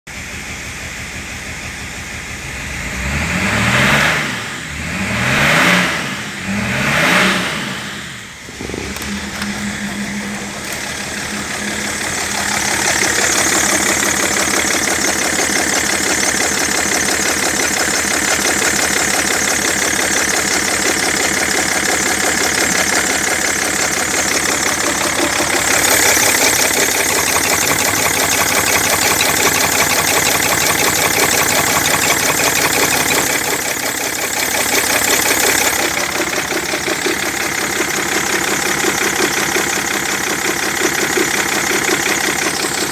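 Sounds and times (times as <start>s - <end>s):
diesel engine idling and revving: 0.0s - 42.9s.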